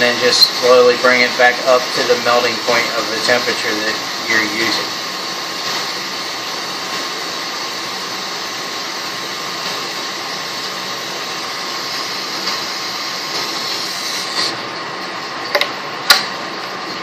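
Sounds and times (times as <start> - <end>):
torch flame hissing: 0.0 - 15.3.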